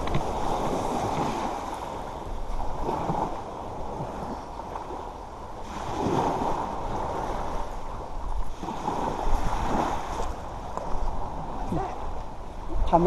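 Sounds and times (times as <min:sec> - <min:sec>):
small waves breaking on beach: 0:00.0 - 0:13.0
wind rumble on microphone: 0:00.0 - 0:13.0.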